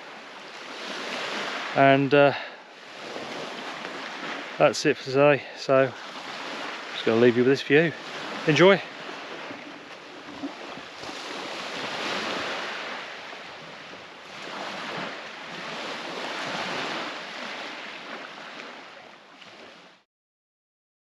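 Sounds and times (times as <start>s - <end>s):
sea waves washing onto shore: 0.0s - 20.0s.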